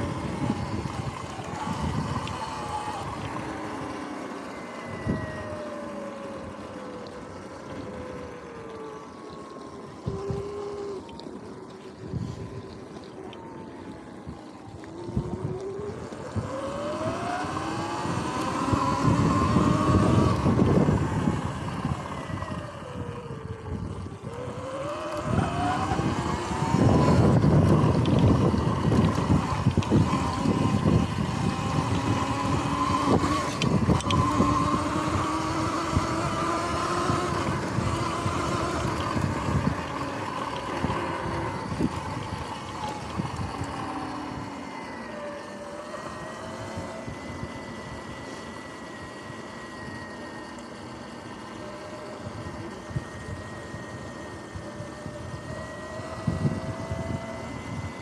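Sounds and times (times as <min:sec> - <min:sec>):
wind rushing over microphone: 0:00.0 - 0:06.8, 0:09.9 - 0:11.1, 0:14.1 - 0:50.1, 0:51.2 - 0:58.0
electric dirt bike whine: 0:00.0 - 0:58.0.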